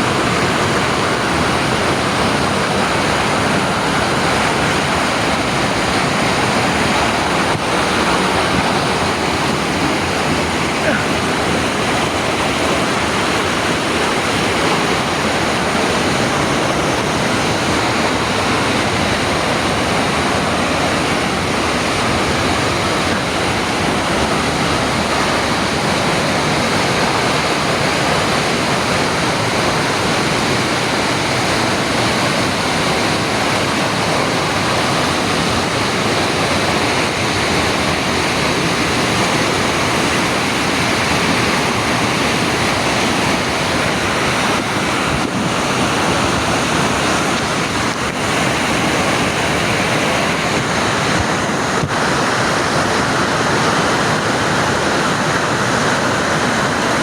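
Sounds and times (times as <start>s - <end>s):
waterfall pouring: 0.0s - 57.0s.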